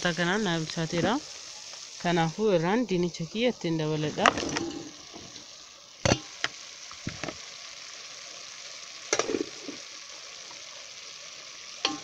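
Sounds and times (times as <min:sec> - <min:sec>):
pot sizzling: 0:00.0 - 0:12.0.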